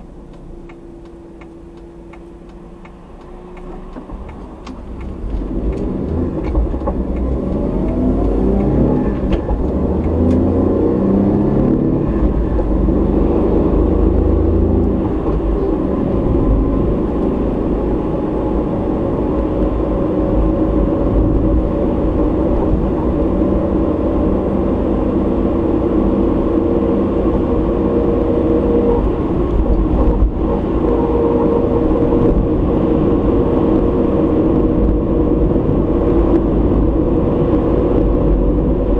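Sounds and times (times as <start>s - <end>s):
car engine: 0.0s - 38.9s.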